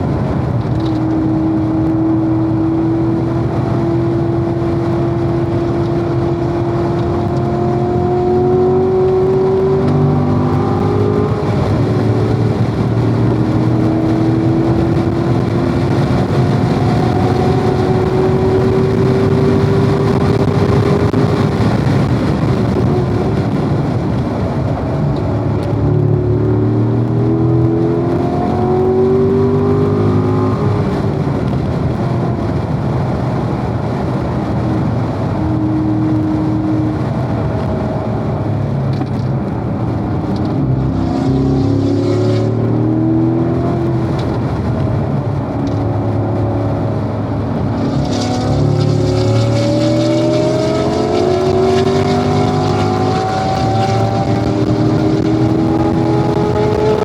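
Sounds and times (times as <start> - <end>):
car engine revving: 0.0 - 57.0
road and wind rumble: 0.0 - 57.0.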